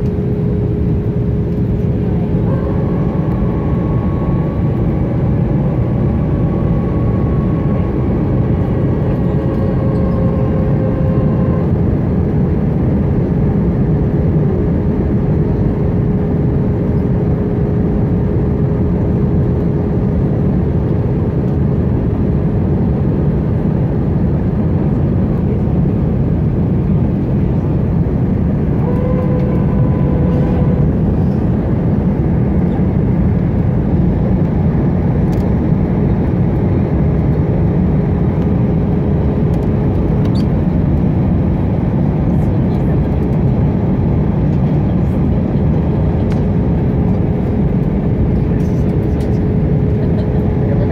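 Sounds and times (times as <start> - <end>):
airliner engine roar in cabin: 0.0 - 50.9.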